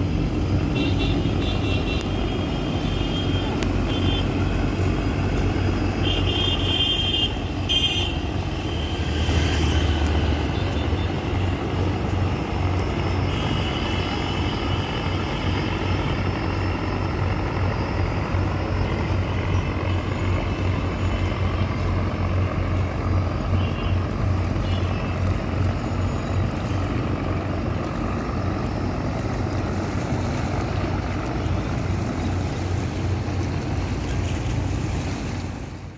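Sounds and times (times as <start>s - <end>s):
boat engine drone: 0.0s - 35.9s
rushing water: 0.0s - 35.9s
wind: 0.0s - 35.9s.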